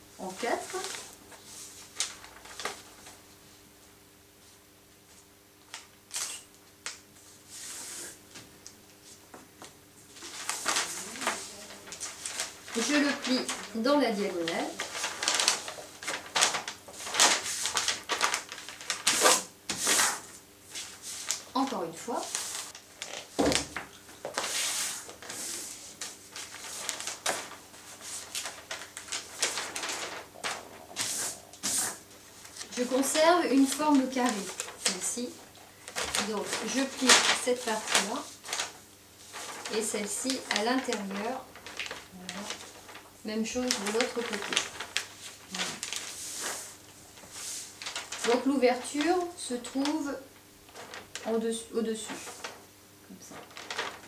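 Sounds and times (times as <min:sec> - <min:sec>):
paper crinkling and rustling: 0:00.2 - 0:03.4, 0:09.1 - 0:54.0.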